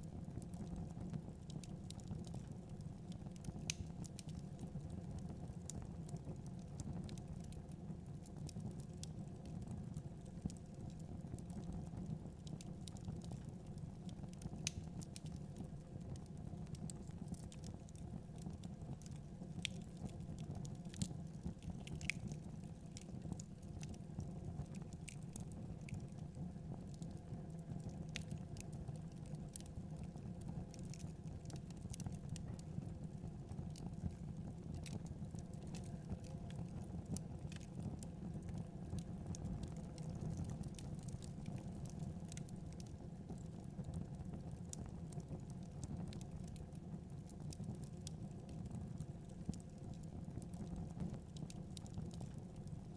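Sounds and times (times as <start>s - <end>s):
wood fire crackling: 0.1s - 52.9s.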